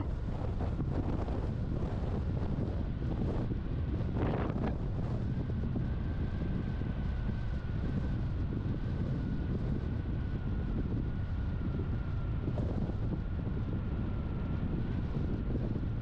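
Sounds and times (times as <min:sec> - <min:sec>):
car engine and tyres rumbling: 0:00.0 - 0:16.0
wind buffeting microphone: 0:00.0 - 0:16.0.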